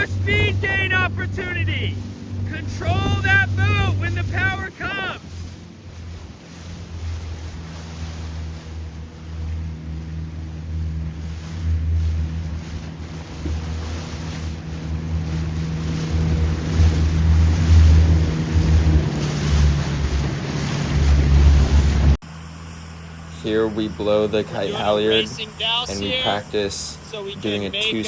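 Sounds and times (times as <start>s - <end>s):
motorboat engine running: 0.0s - 28.0s
water rushing: 0.0s - 28.0s.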